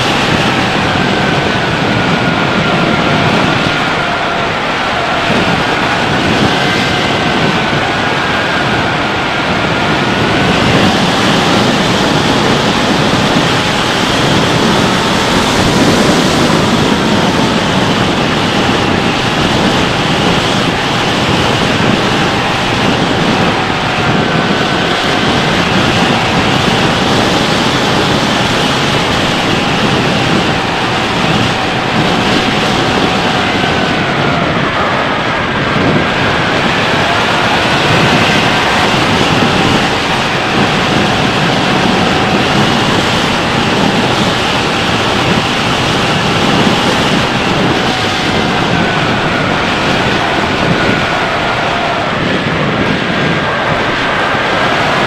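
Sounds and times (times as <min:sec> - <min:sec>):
electric motor and propeller whine: 0:00.0 - 0:55.0
wind roar: 0:00.0 - 0:55.0.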